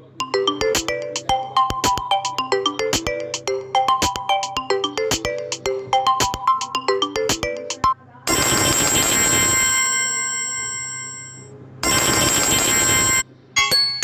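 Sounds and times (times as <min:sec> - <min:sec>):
phone ringtone: 0:00.0 - 0:14.0.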